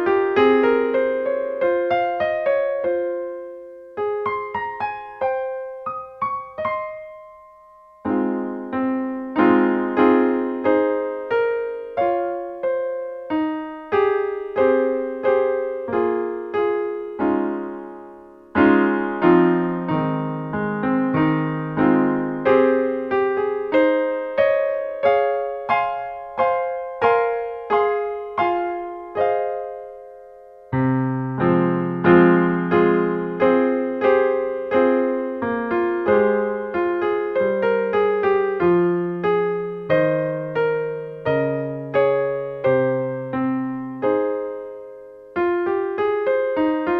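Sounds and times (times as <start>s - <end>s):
gentle piano melody: 0.0s - 46.9s.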